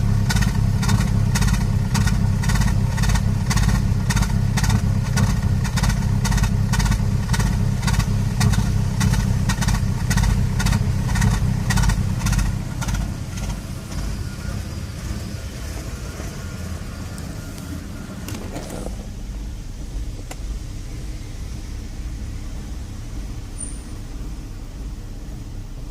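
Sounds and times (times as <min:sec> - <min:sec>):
rhythmic engine knock: 0:00.0 - 0:23.3
car engine running roughly: 0:00.0 - 0:25.9.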